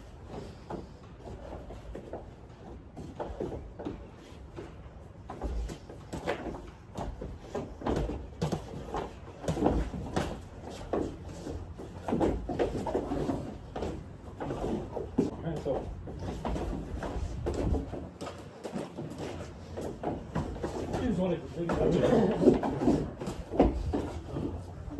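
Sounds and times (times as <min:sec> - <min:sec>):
feet moving: 0:00.0 - 0:24.9.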